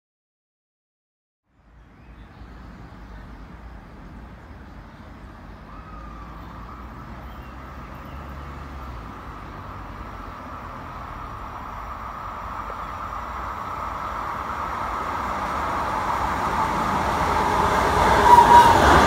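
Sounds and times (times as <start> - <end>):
distant train rumble and hiss: 1.5 - 19.0.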